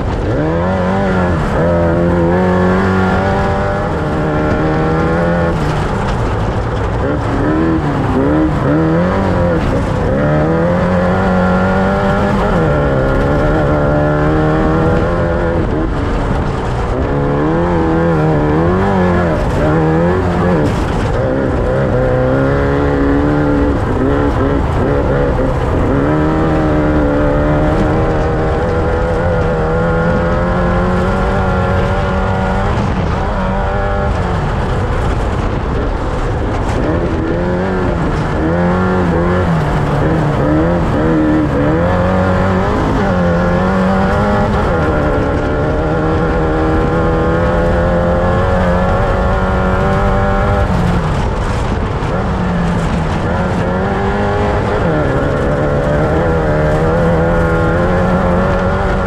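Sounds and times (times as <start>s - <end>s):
race vehicle engine revving: 0.0s - 59.0s.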